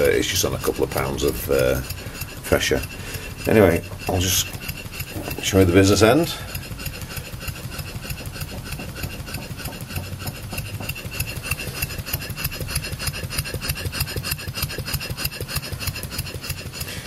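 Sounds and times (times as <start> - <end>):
model steam engine running: 0.0 - 17.0.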